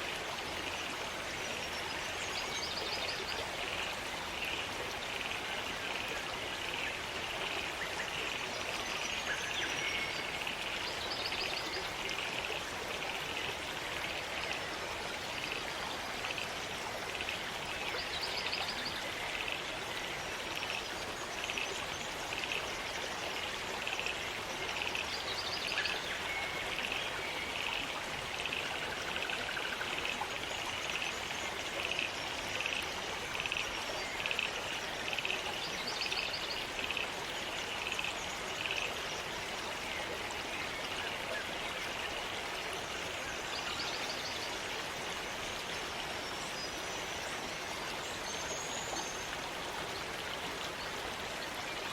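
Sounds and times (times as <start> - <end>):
stream running over rocks: 0.0 - 51.9.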